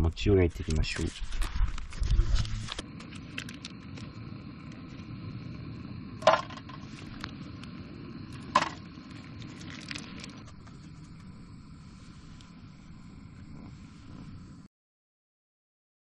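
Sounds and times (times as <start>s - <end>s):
camp stove burner hissing: 0.1s - 14.7s.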